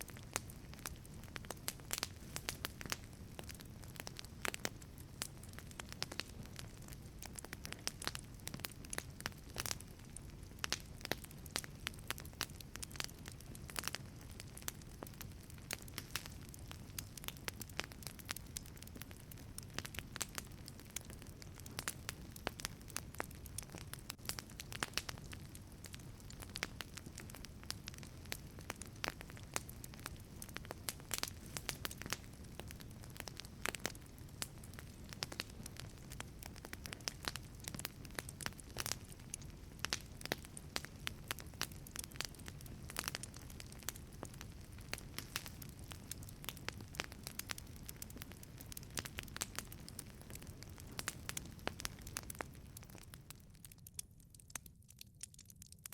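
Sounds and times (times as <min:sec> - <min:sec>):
low rumble of flames: 0:00.0 - 0:55.8
wood fire crackling and popping: 0:00.0 - 0:55.9.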